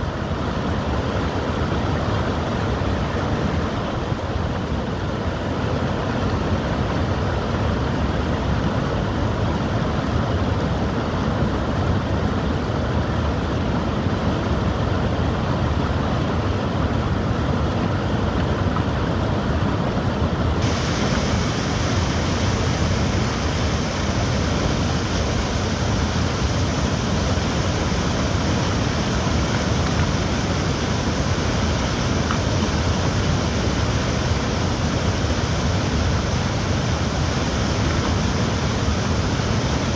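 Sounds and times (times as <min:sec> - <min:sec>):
floodwater rushing over a weir: 0:00.0 - 0:39.9.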